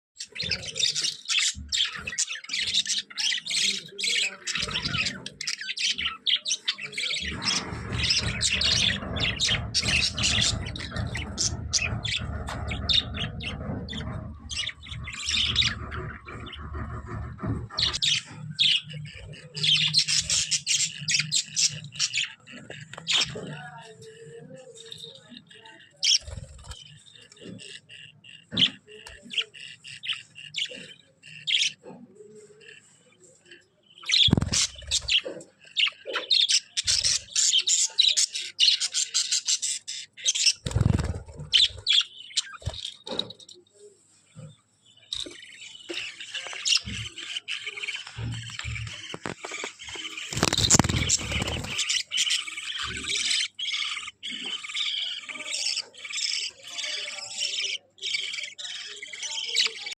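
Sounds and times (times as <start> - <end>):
budgerigars chirping: 0.2 - 43.7, 44.3 - 59.9.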